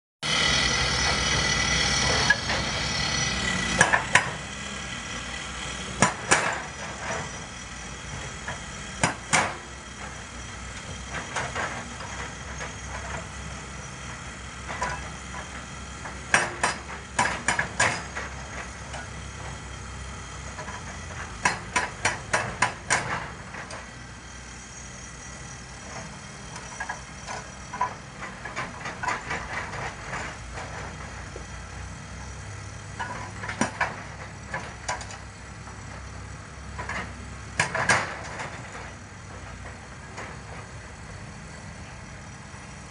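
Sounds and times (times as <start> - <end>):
hydraulic breaker hammering rock: 0.2 - 19.6, 20.4 - 23.9, 25.8 - 32.4, 33.0 - 35.2, 36.7 - 41.2
diesel engine running: 0.2 - 42.9.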